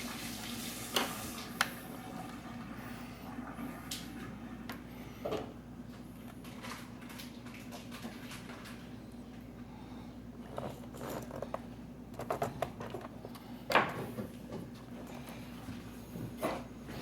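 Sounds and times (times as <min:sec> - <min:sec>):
steady low hum: 0:01.5 - 0:17.0.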